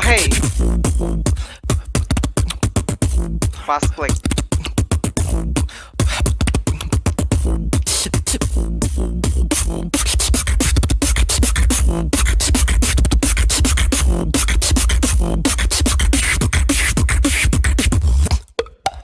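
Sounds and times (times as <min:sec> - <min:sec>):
deep bass line: 0:00.0 - 0:18.3
beatbox mouth clicks: 0:00.0 - 0:19.0.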